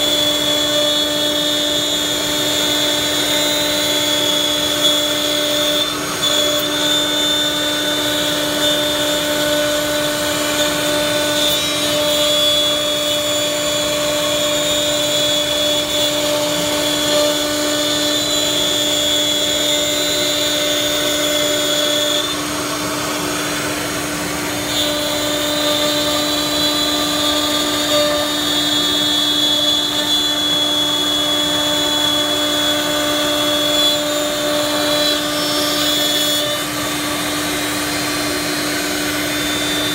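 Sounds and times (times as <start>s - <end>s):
router spindles whining: 0.0s - 39.9s.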